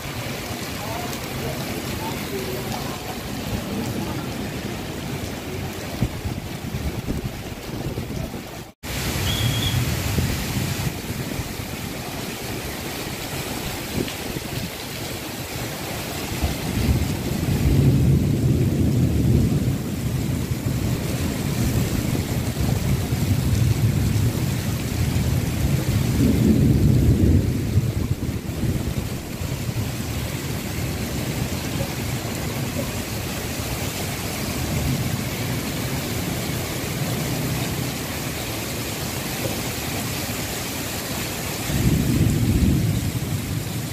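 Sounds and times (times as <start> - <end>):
heavy rain: 0.0 - 43.9
strong wind: 2.8 - 37.9, 41.6 - 43.9.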